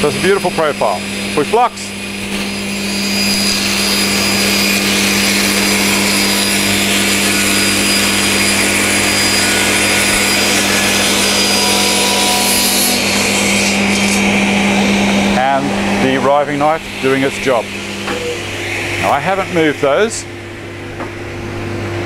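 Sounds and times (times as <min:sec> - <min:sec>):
table saw cutting board: 0:00.0 - 0:22.0.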